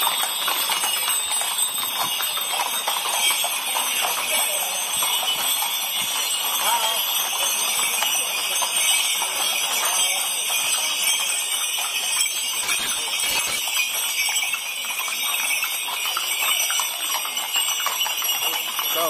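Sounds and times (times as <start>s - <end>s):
harness jingling: 0.0s - 19.0s
hooves clip-clopping on pavement: 0.0s - 19.0s.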